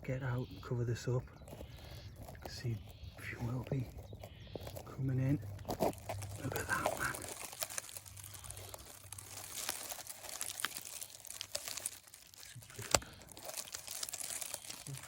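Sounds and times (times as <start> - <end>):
dry vegetation rustling: 0.0 - 15.0.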